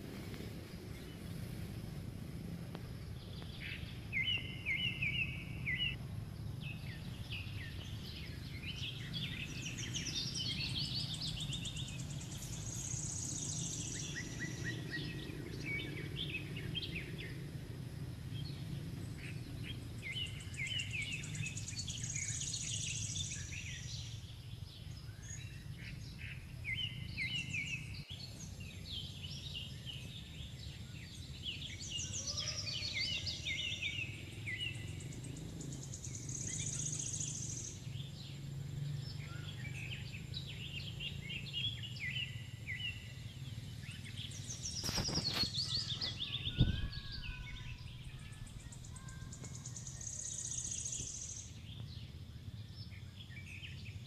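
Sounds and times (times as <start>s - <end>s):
insects buzzing: 0.0s - 51.8s
low background noise: 0.0s - 54.0s
small birds chirping: 0.0s - 54.0s.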